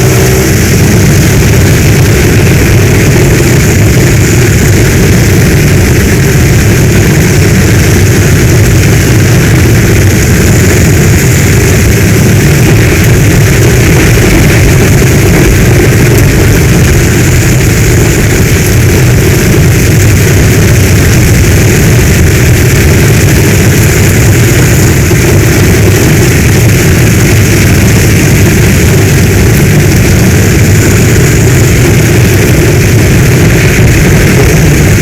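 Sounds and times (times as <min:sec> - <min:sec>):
deep low rumble: 0:00.0 - 0:35.0
heavy rain: 0:00.0 - 0:35.0.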